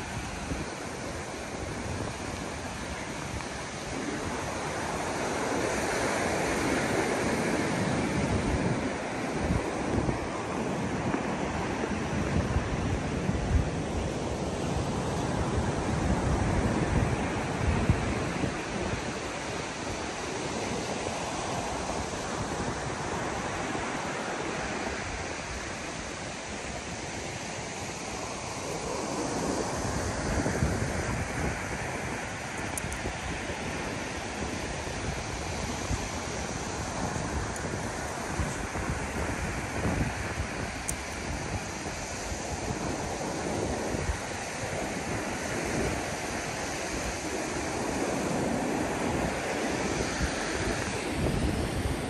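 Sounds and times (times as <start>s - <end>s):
ocean surf breaking: 0.0s - 52.0s
wind rumbling on microphone: 0.0s - 52.0s.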